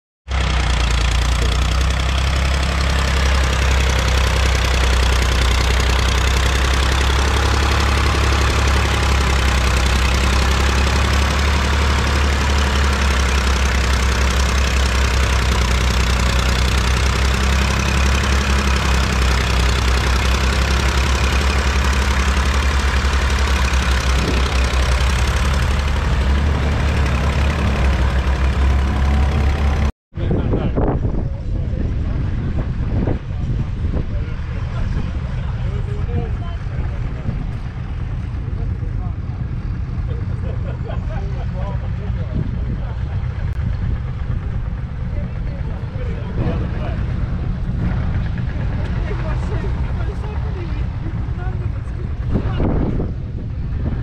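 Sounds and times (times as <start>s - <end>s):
tractor diesel engine running: 0.3s - 54.0s.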